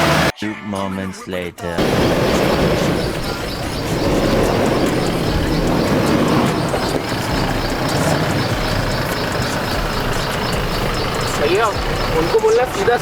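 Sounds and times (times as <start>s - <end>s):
vehicle engine running: 0.0s - 0.3s, 1.8s - 13.0s.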